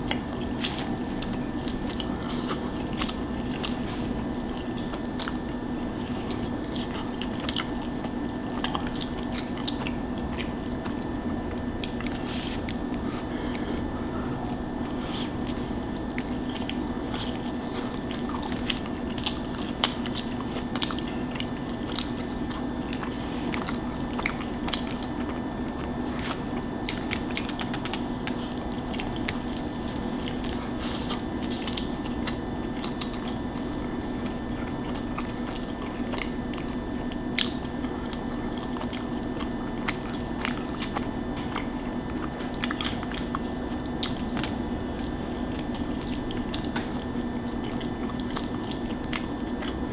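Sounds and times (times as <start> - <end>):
person chewing: 0.0 - 49.9
steady low hum: 0.0 - 49.9.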